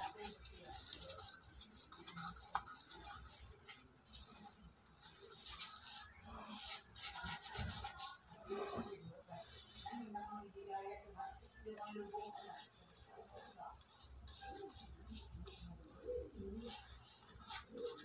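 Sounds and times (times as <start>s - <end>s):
paintbrush bristles rubbing on wall: 0.0s - 8.2s, 11.6s - 18.0s.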